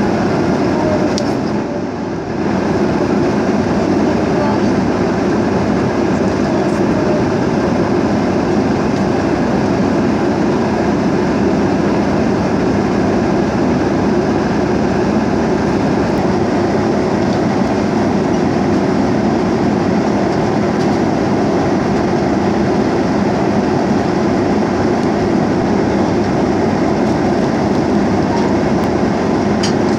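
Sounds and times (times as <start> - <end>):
airliner cabin engine noise: 0.0 - 29.9.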